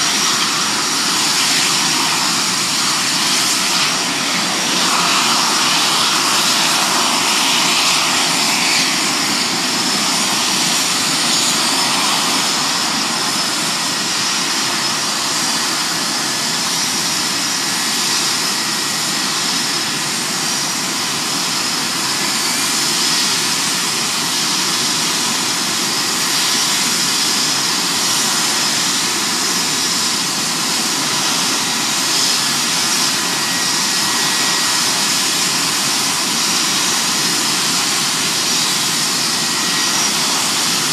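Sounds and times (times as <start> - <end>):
jet engine idling: 0.0 - 40.9.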